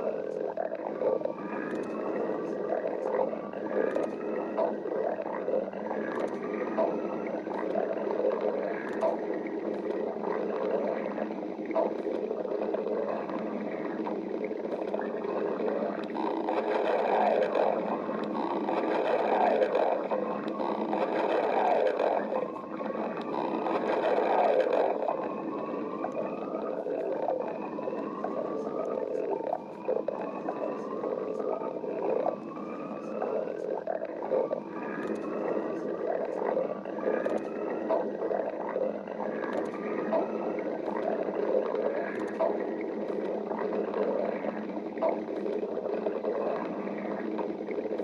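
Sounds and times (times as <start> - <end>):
stomach growling: 0.0 - 48.0.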